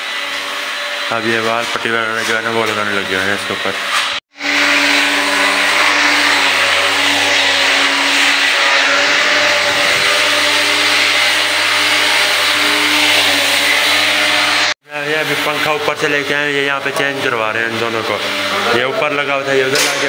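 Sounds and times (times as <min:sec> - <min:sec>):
power tool motor running: 0:00.0 - 0:15.6, 0:17.6 - 0:20.0.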